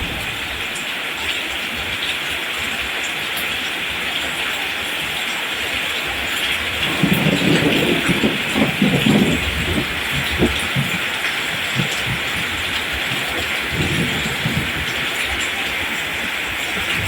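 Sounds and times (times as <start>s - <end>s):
rain falling on plants: 0.0s - 17.0s.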